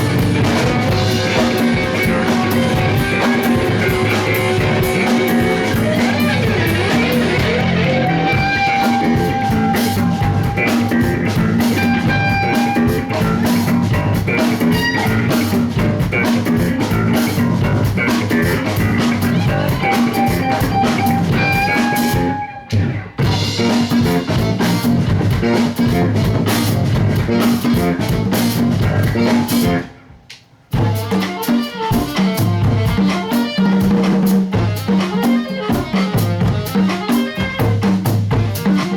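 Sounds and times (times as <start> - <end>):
drum kit: 0.0 - 38.9
guitar: 0.0 - 38.9
rock band playing live: 0.0 - 38.9.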